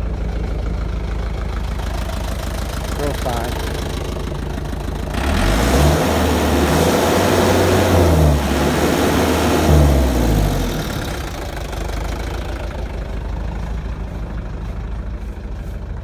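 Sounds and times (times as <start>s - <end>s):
diesel truck engine revving and idling: 0.0s - 16.0s.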